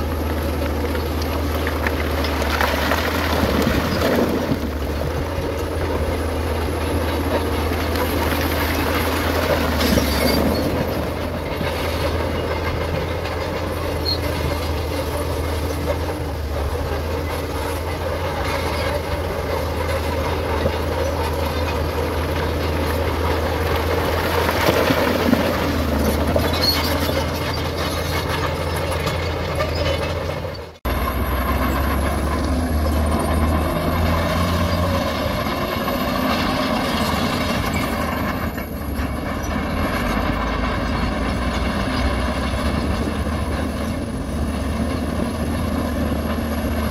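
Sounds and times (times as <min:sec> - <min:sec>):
bulldozer diesel engine under load: 0:00.0 - 0:46.9.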